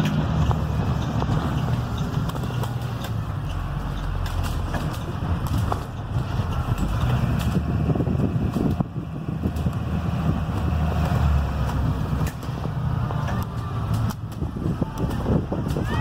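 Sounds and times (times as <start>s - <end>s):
diesel engine drone: 0.0s - 15.9s
road noise: 0.0s - 16.0s.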